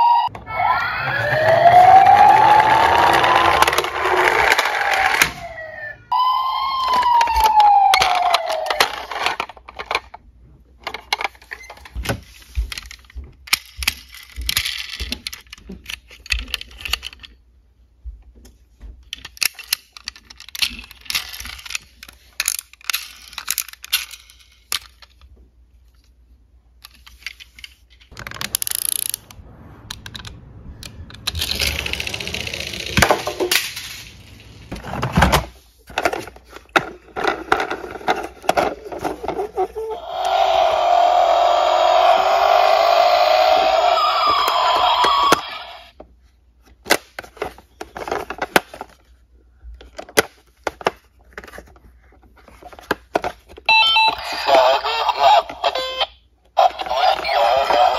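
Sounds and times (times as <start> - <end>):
toy cars clattering: 1.1 - 5.6, 6.7 - 17.4, 19.0 - 56.0.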